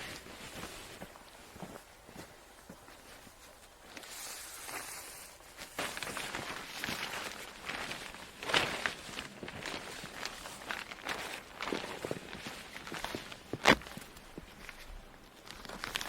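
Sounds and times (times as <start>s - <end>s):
footsteps crunching on rough ground: 0.0s - 16.0s.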